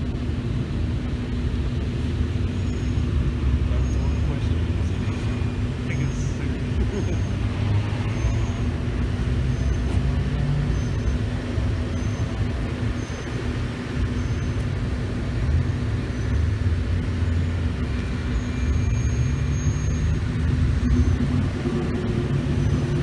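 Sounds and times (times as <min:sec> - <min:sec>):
cars driving slowly past: 0:00.0 - 0:23.0.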